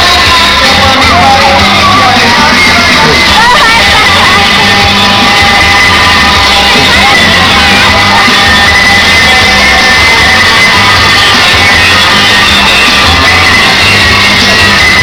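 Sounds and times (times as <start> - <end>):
crowd shouting and yelling: 0.0 - 15.0
loud music with bass line: 0.0 - 15.0.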